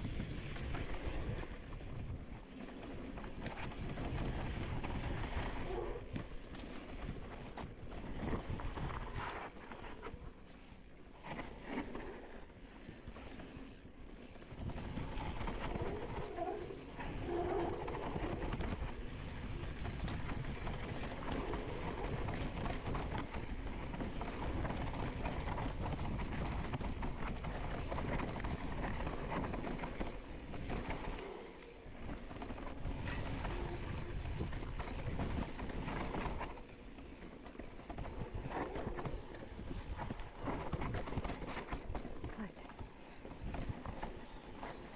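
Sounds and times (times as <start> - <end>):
bike rattling over bumps: 0.0 - 44.9
bike tyres on loose dirt: 0.0 - 44.9.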